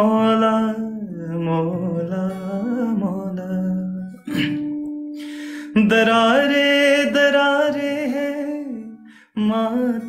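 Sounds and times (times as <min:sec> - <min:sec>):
acoustic guitar: 0:00.0 - 0:10.0
man singing a slow ballad: 0:00.0 - 0:10.0.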